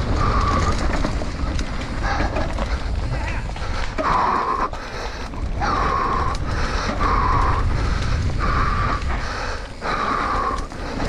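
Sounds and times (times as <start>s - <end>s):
bike rolling over dirt trail: 0.0s - 11.0s
heavy rhythmic breathing: 0.0s - 11.0s.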